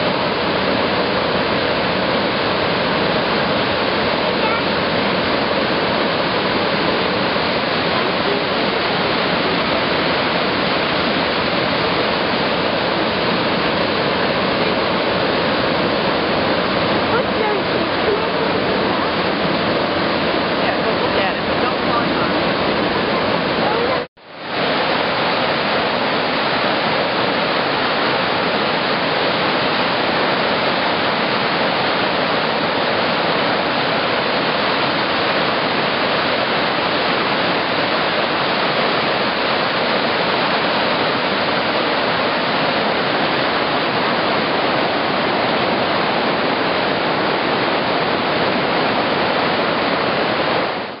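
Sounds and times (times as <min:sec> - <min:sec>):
loud rush of water: 0:00.0 - 0:51.0.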